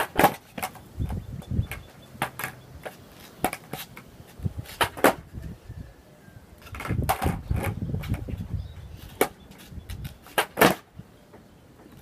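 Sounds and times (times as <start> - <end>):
skateboard knocking on asphalt: 0.0 - 5.3, 6.6 - 8.4, 9.1 - 12.0.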